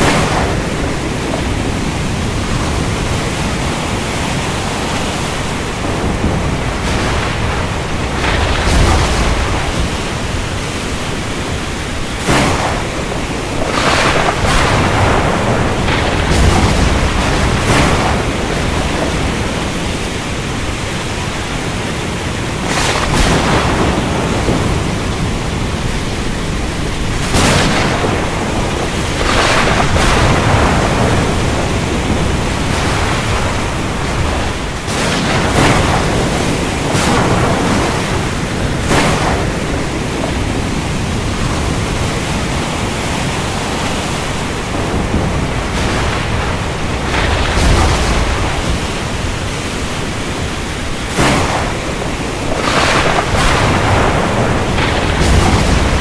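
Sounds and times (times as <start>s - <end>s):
heavy rain downpour: 0.0s - 56.0s
thunder cracks: 0.0s - 56.0s.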